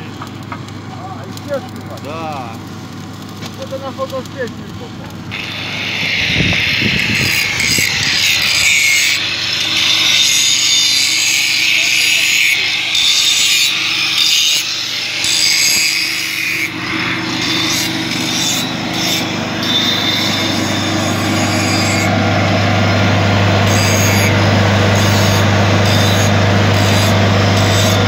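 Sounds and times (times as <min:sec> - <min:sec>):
arc welding crackling and hissing: 0:00.0 - 0:28.0
diesel generator engine running: 0:00.0 - 0:28.0.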